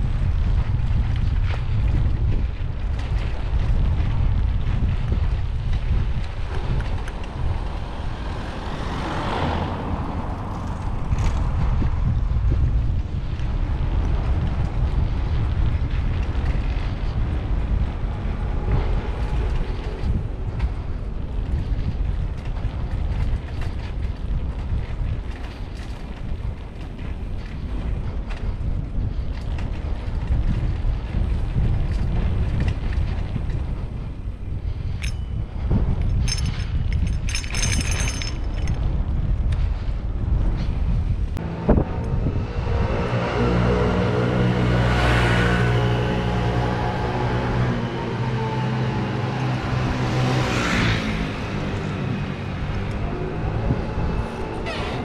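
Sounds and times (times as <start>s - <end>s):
vehicle engine humming: 0.0s - 39.2s, 40.0s - 55.0s
wind buffeting microphone: 0.0s - 55.0s.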